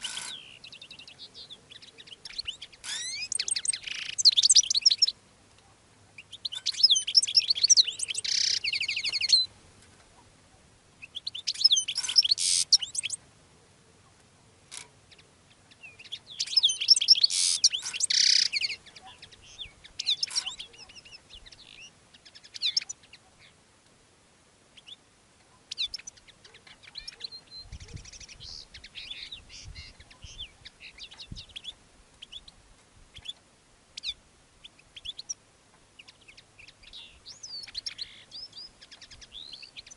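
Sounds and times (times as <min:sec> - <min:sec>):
goldfinch twittering song: 0:00.0 - 0:05.2, 0:06.2 - 0:09.5, 0:11.0 - 0:13.2, 0:15.0 - 0:23.6, 0:24.7 - 0:39.9.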